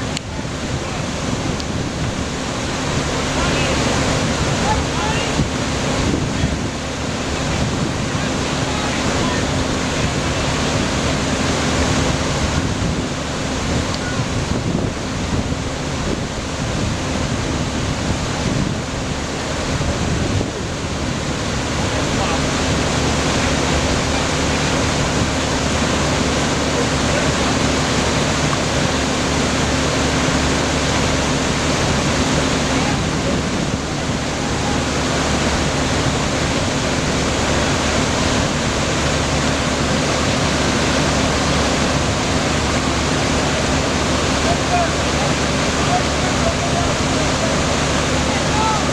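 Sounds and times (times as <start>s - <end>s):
floodwater rushing: 0.0s - 48.9s.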